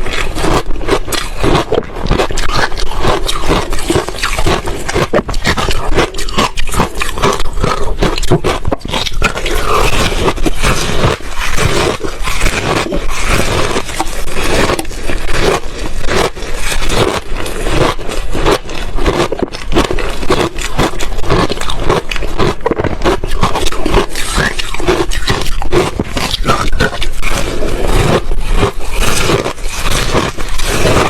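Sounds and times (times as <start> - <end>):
ice crunching while chewed: 0.0 - 31.0.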